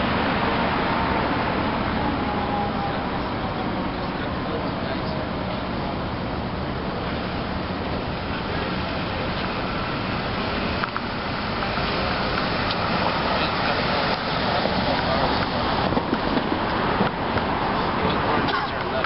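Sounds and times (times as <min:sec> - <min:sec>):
passing car traffic: 0:00.0 - 0:19.0
indistinct voices: 0:01.8 - 0:19.0.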